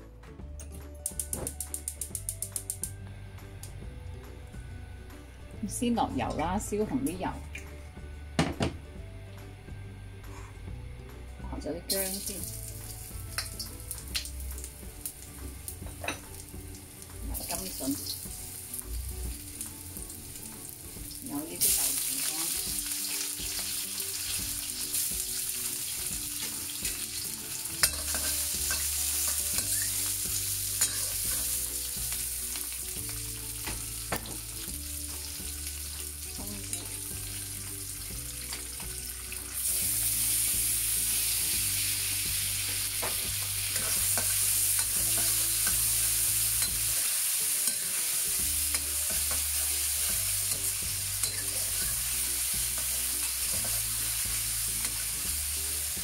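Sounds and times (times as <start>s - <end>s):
oil sizzling in a wok: 11.1s - 56.0s.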